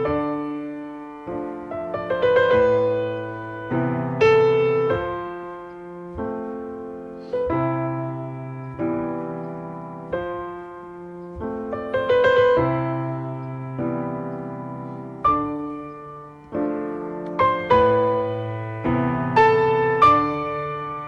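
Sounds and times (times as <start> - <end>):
gentle solo piano: 0.0 - 21.0.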